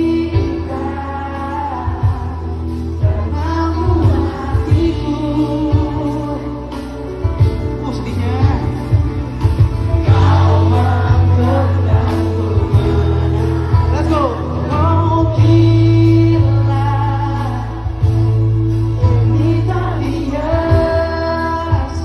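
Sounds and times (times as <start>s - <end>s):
live band with heavy bass: 0.0s - 22.0s
person singing: 0.0s - 22.0s.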